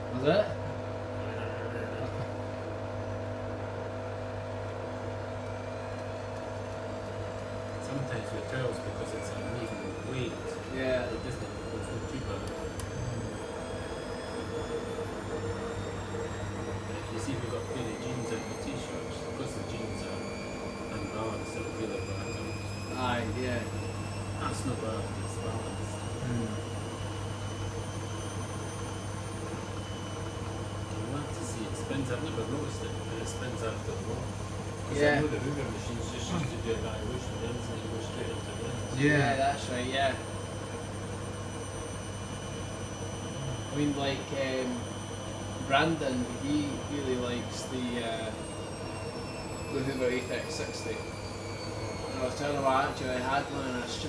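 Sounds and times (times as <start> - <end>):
faint high whines: 0.0 - 54.0
washing machine motor humming: 0.0 - 54.0.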